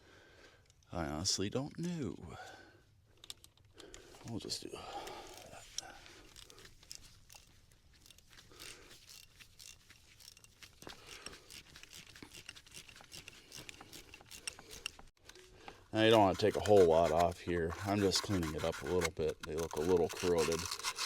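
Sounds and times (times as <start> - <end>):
scratching and small clicks of rubbing: 3.2 - 21.0.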